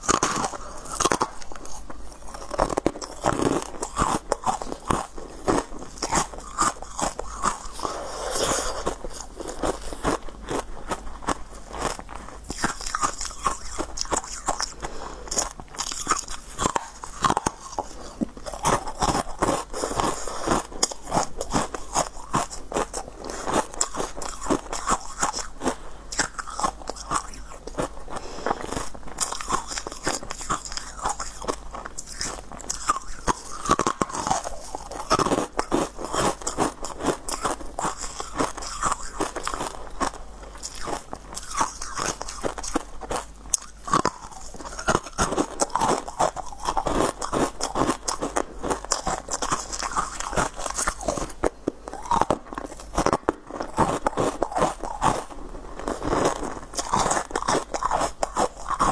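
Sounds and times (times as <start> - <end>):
person crunching hard pieces: 0.0 - 58.9.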